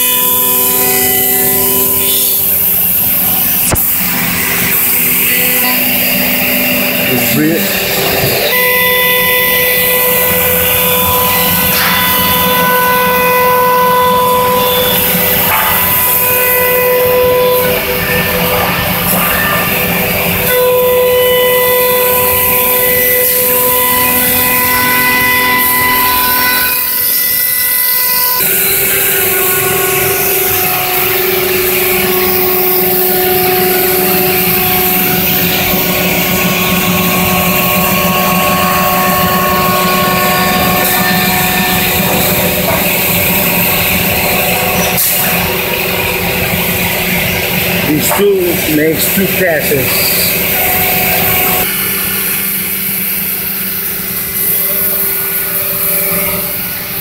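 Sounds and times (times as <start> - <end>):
cutter milling wood: 0.0 - 57.0
router spindle whine: 0.0 - 57.0.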